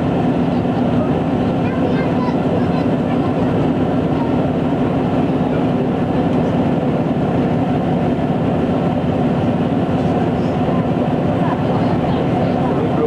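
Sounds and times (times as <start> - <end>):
submarine machinery rumble and hum: 0.0 - 13.0.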